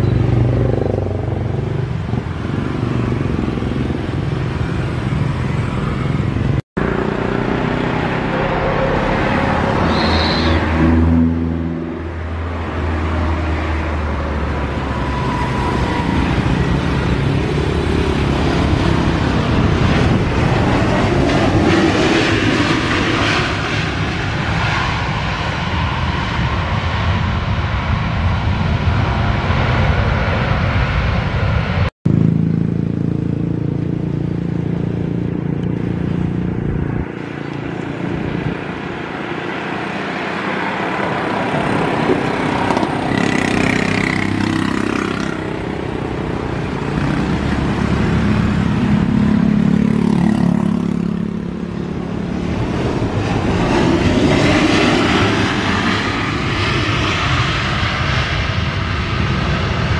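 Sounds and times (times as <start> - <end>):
jet airliner landing: 0.1 - 31.9, 34.5 - 59.9.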